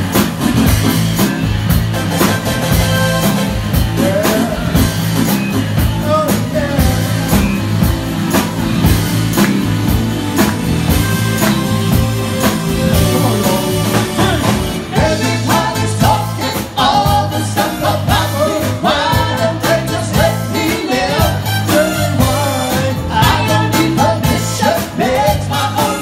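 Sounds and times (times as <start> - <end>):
funk band playing: 0.0 - 26.0.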